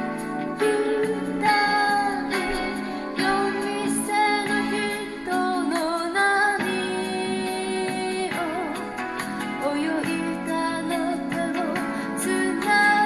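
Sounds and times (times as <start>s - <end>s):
instrumental backing music: 0.0s - 13.0s
woman singing: 0.5s - 13.0s.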